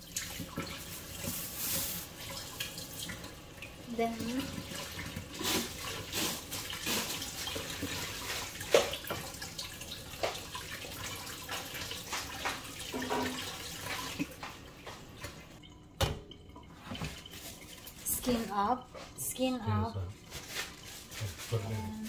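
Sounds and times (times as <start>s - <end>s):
water splashing in a sink: 0.0s - 21.7s.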